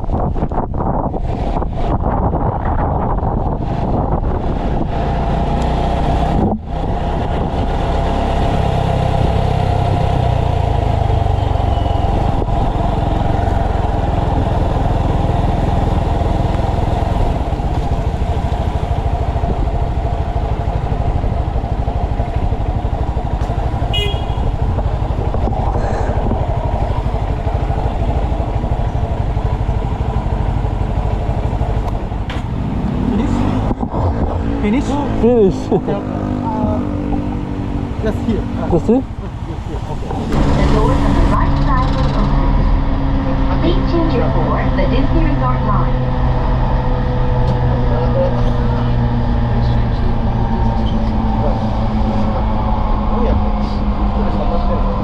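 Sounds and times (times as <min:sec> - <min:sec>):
motorcycle engine hum and rumble: 0:00.0 - 0:55.0.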